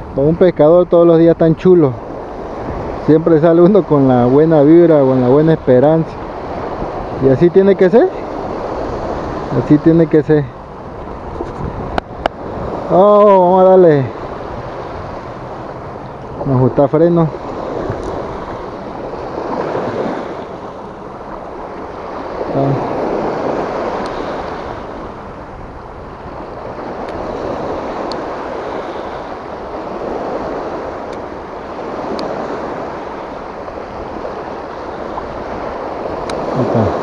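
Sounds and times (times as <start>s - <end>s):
small waves on rocky shore: 1.0s - 37.0s.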